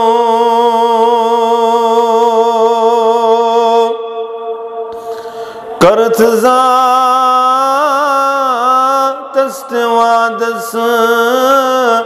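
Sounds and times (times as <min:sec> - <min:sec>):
man chanting unaccompanied: 0:00.0 - 0:04.6, 0:05.8 - 0:12.0.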